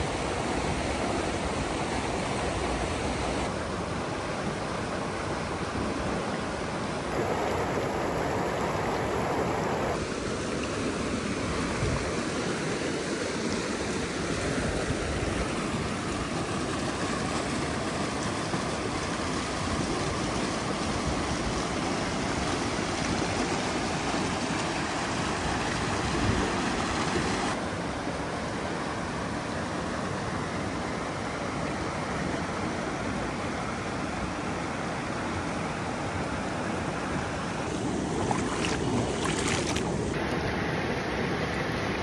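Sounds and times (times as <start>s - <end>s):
creek rushing over boulders: 0.0s - 42.0s.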